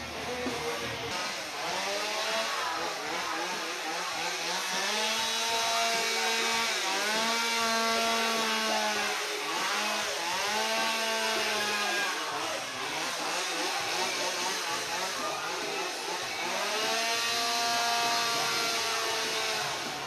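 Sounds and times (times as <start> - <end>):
chainsaw cutting ice: 0.0 - 20.0.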